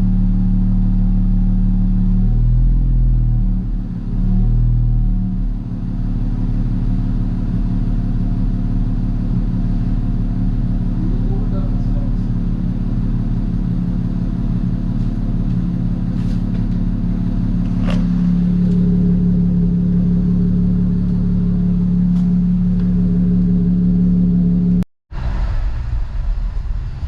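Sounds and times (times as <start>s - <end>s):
car engine exhaust drone: 0.0s - 27.0s.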